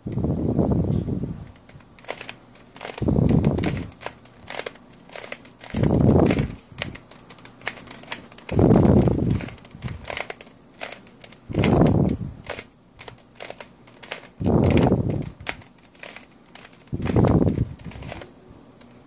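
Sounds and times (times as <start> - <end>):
puzzle pieces clicking: 1.4 - 19.0.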